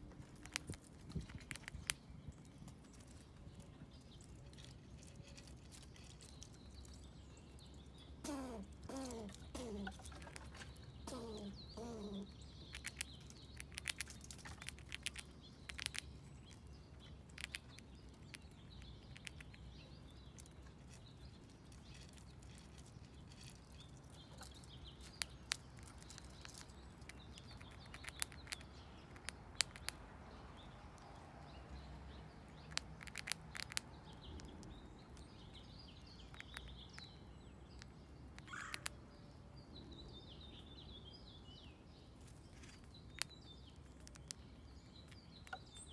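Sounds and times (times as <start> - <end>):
squirrel gnawing crunching clicks: 0.0 - 39.1, 42.2 - 45.9
low steady background rumble: 0.0 - 45.9
faint bird chirps: 1.3 - 29.9, 31.7 - 45.9.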